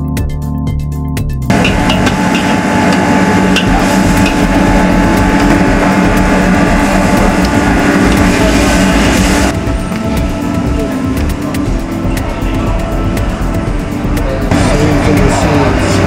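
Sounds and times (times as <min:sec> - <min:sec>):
charcoal stove fan rushing: 0:01.5 - 0:16.0.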